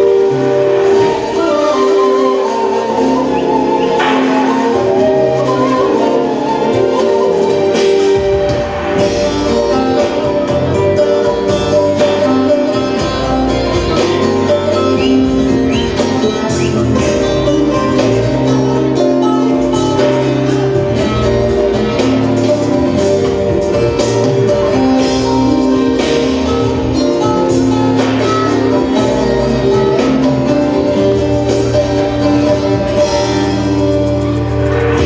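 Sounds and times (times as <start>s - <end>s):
lute and band playing: 0.0s - 35.0s
percussion beat: 0.0s - 35.0s.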